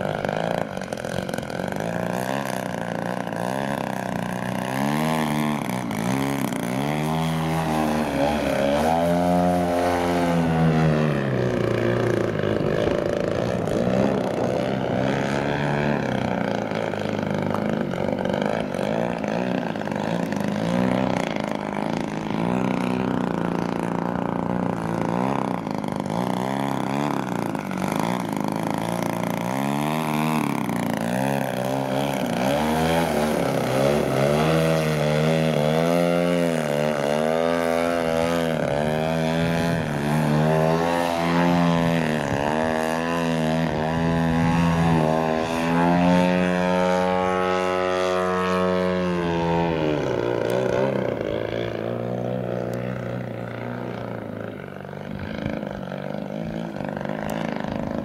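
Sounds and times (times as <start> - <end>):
model airplane propeller drone: 0.0 - 58.0.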